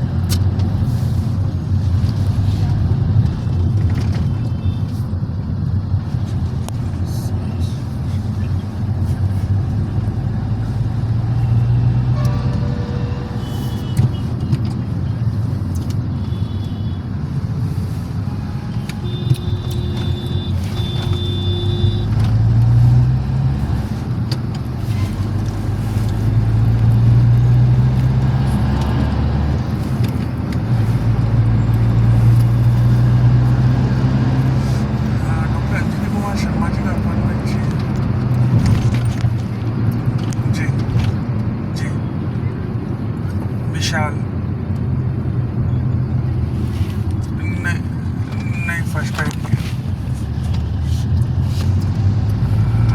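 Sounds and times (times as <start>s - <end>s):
car engine humming: 0.0s - 52.9s.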